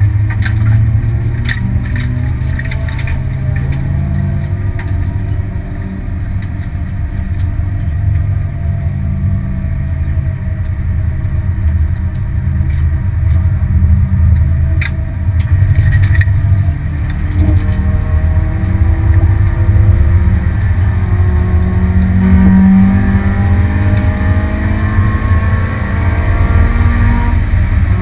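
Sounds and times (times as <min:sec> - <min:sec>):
car engine from inside cabin: 0:00.0 - 0:28.0
road noise: 0:00.0 - 0:28.0.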